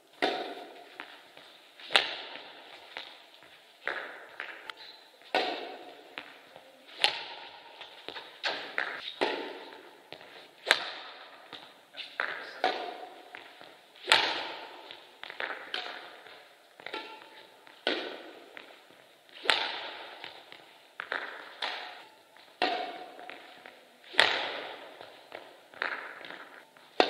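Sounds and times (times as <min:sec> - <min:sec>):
footsteps in sports hall: 0:00.0 - 0:27.0
racket hitting shuttlecock: 0:00.0 - 0:27.0.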